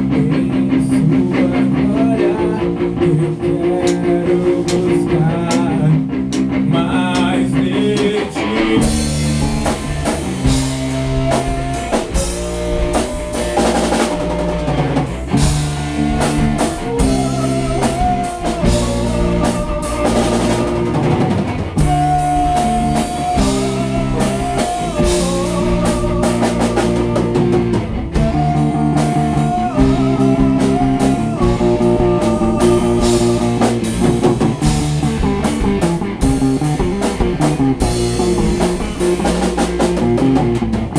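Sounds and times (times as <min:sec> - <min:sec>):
bass guitar: 0:00.0 - 0:40.9
drum kit: 0:00.0 - 0:40.9
melodic guitar line: 0:00.0 - 0:40.9
rhythm guitar: 0:00.0 - 0:40.9.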